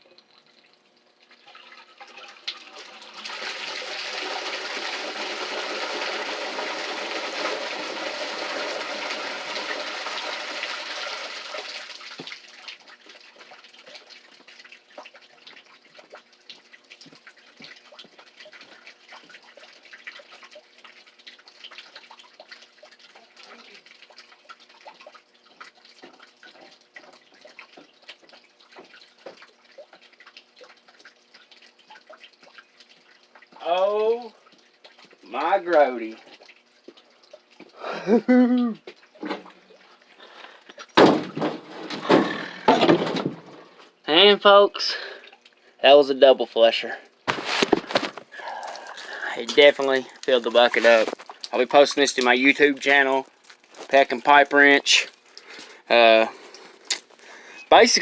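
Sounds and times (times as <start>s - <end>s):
water dripping: 0.0s - 45.8s, 47.1s - 58.0s
water pouring into a bucket: 0.1s - 45.8s, 47.3s - 58.0s.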